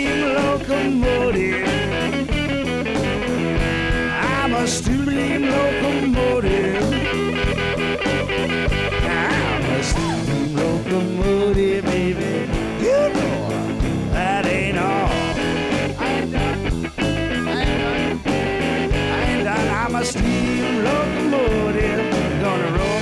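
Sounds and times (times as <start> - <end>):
blues guitar with bending notes: 0.0 - 23.0
steady beat: 0.0 - 23.0.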